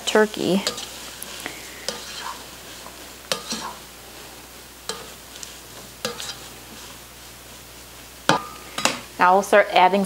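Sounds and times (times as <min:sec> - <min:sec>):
spatula stirring food: 0:00.0 - 0:09.2
food sizzling in a pot: 0:00.0 - 0:10.0.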